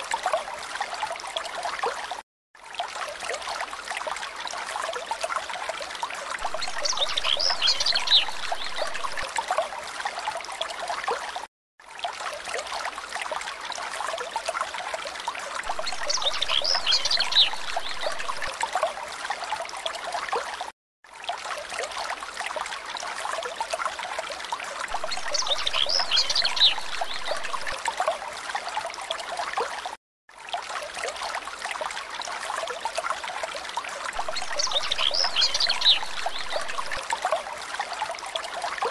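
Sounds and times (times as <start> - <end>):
trickling stream water: 0.0 - 38.9.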